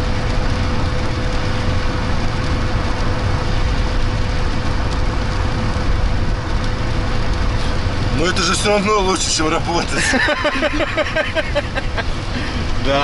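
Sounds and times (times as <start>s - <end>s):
car engine and road rumble: 0.0s - 13.0s
constant hum: 0.0s - 13.0s.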